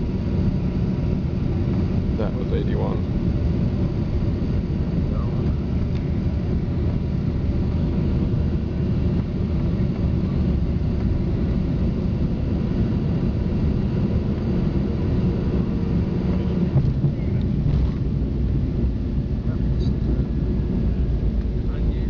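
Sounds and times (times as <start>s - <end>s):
jet cabin rumble: 0.0s - 22.0s.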